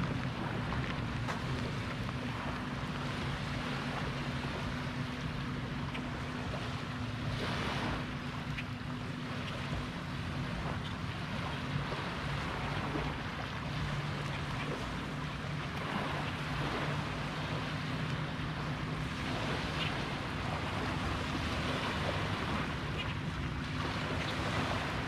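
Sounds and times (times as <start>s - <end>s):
lake waves lapping on shore: 0.0s - 25.0s
rushing water: 0.0s - 25.0s
wind on microphone: 0.0s - 25.0s.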